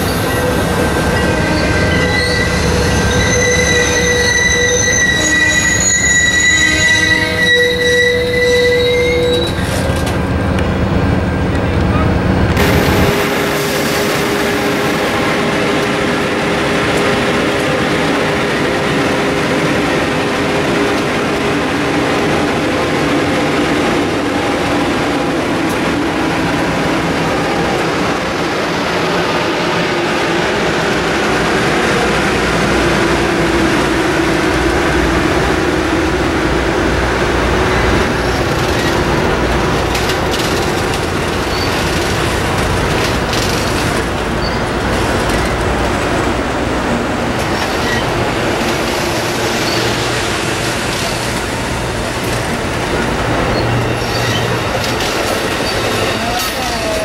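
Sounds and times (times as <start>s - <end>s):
train cars rumbling past: 0.0s - 57.0s.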